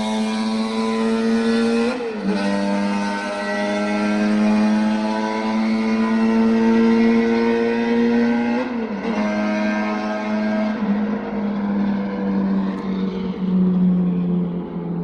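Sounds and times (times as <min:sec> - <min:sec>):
motorcycle engine howling at high revs: 0:00.0 - 0:15.0.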